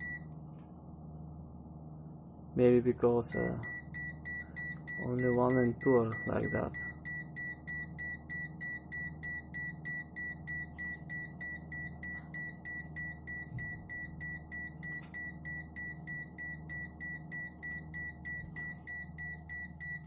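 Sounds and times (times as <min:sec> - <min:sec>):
short high alarm beeps: 0:00.0 - 0:00.2, 0:03.3 - 0:20.0
fan hum: 0:00.0 - 0:20.0.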